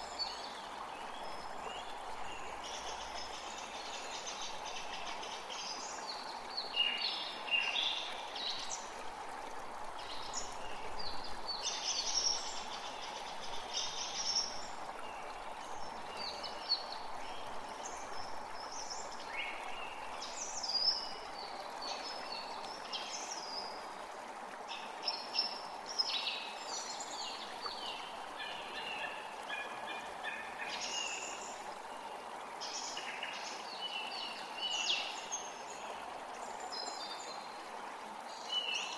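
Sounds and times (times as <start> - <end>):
creek rushing: 0.0 - 38.9.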